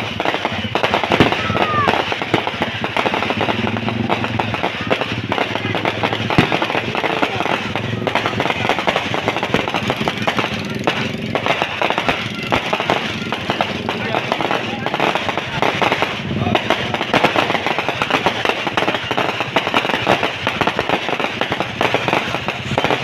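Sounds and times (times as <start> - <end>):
firework bang: 0.0 - 23.0
fireworks crackling: 0.0 - 23.0.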